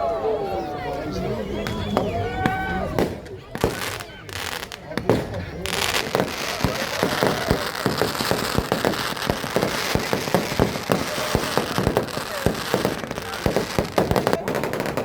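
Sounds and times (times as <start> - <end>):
firecrackers popping and cracking: 2.4 - 15.0.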